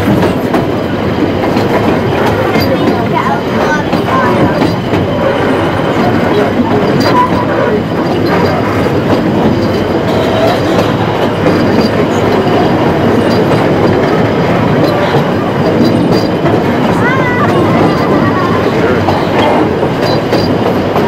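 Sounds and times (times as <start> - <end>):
train wheels rattling on rails: 0.0 - 21.0.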